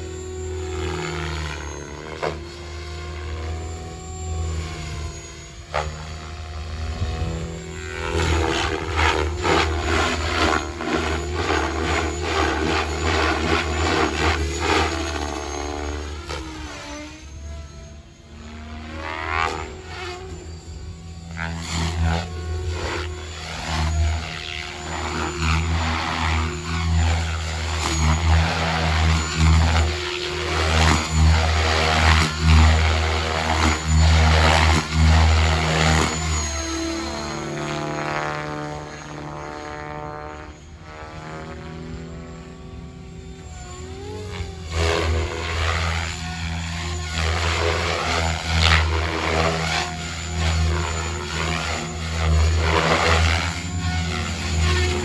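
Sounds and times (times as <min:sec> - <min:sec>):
model helicopter motor and rotor: 0:00.0 - 0:55.0.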